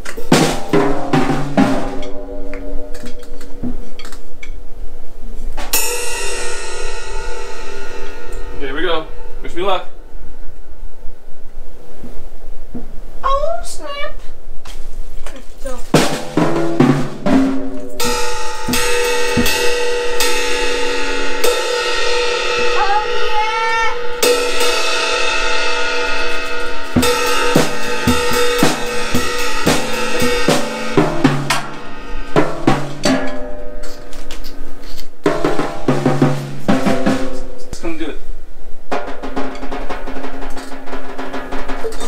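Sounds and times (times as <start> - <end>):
cymbal crashes ringing: 0.0 - 4.4, 5.6 - 12.0, 16.0 - 42.0
drum hits: 0.0 - 4.4, 5.6 - 10.8, 15.8 - 42.0.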